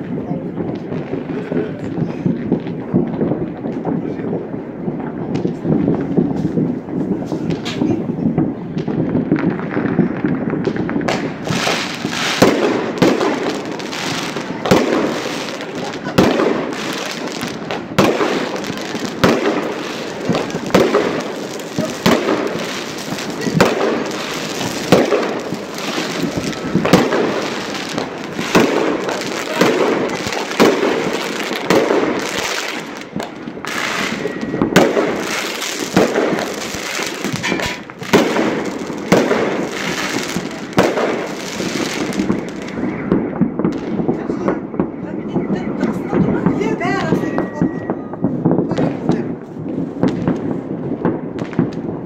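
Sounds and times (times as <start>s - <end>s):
distant fireworks crackling: 0.0s - 52.0s
loud firework bangs: 0.0s - 52.0s.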